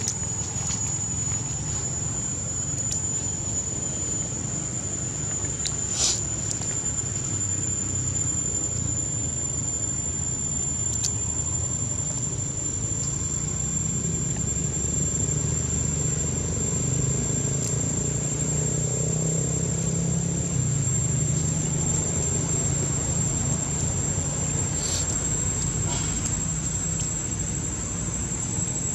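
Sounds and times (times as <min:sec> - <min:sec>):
high-pitched insect drone: 0:00.0 - 0:28.9
low steady rumble: 0:00.0 - 0:28.9.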